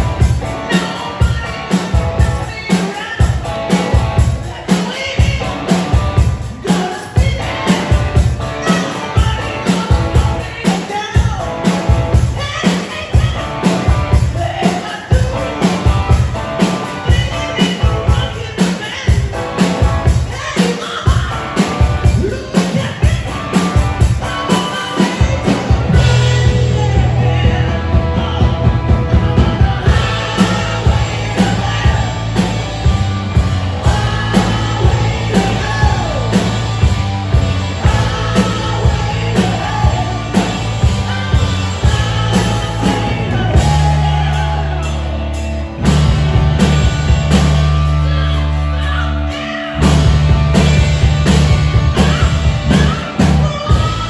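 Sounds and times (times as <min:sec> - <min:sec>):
electric bass: 0:00.0 - 0:20.5, 0:21.1 - 0:54.0
drum kit: 0:00.0 - 0:54.0
electric guitar: 0:00.0 - 0:54.0
man singing lead vocals: 0:00.0 - 0:54.0.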